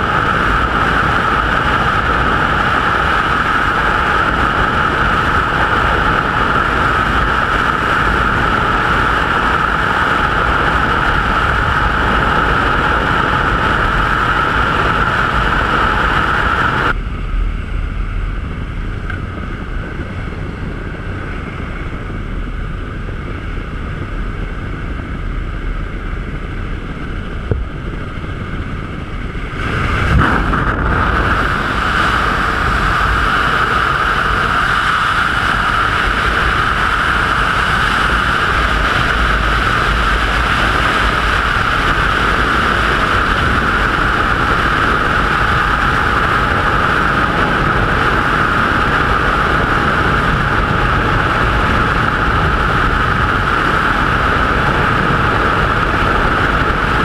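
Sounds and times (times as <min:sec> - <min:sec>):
propeller plane engine drone: 0:00.0 - 0:57.0
wind roaring over microphone: 0:00.0 - 0:57.0.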